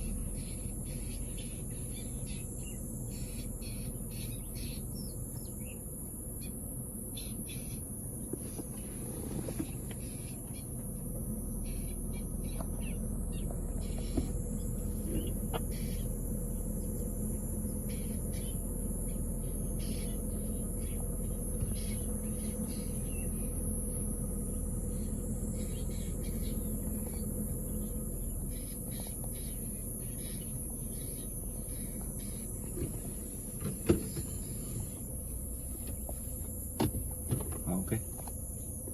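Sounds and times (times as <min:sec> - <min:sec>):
car engine running at low revs: 0:00.0 - 0:38.9
insects droning: 0:00.0 - 0:38.9.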